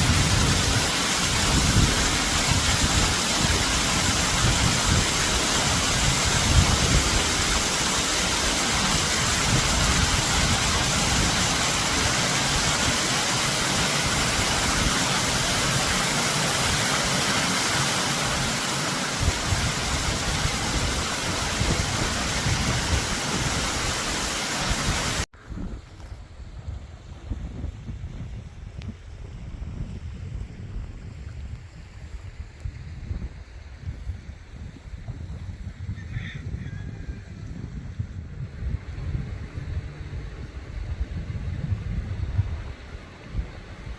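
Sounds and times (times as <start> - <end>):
strong wind on microphone: 0.0 - 16.0, 19.1 - 43.9.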